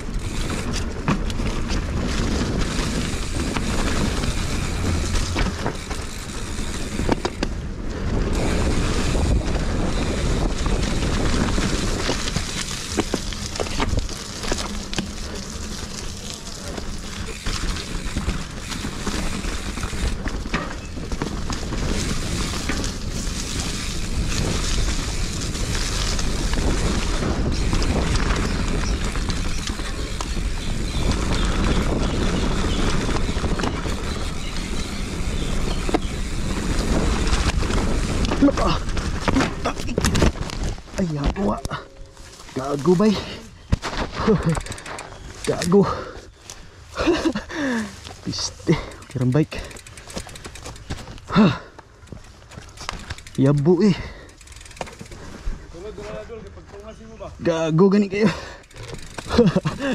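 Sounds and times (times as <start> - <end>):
wind buffeting microphone: 0.0 - 51.4
bike clattering over rough trail: 0.0 - 59.9.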